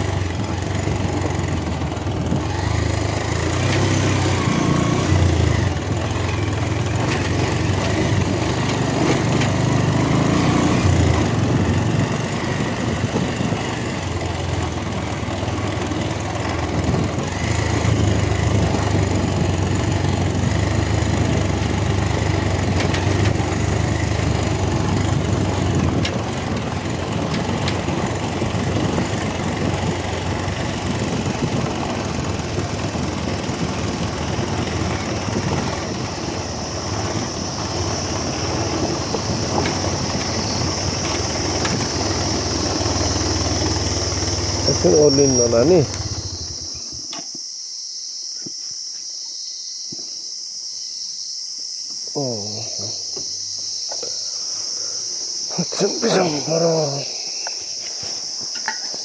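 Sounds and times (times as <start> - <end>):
motorcycle engine droning: 0.0 - 47.6, 51.6 - 59.0.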